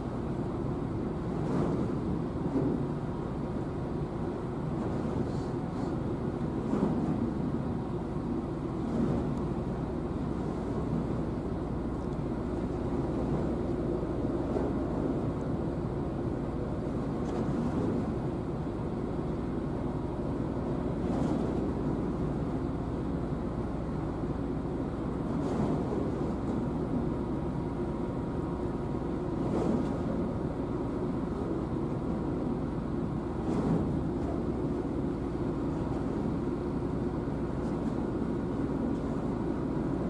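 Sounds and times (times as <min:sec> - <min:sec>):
ship diesel engine rumble: 0:00.0 - 0:40.0.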